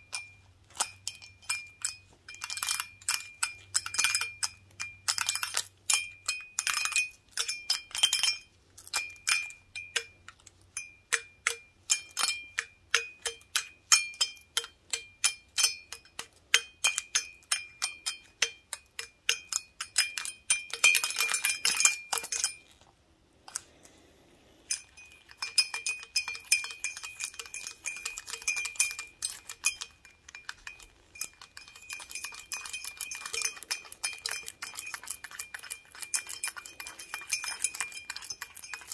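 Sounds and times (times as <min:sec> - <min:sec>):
toothpicks tapping glass stein: 0:00.0 - 0:22.6, 0:24.7 - 0:38.9.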